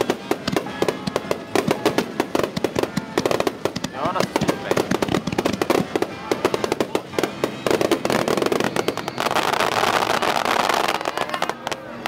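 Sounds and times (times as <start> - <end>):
firework shells bursting: 0.0 - 11.7
dense crackling hiss: 0.0 - 12.0.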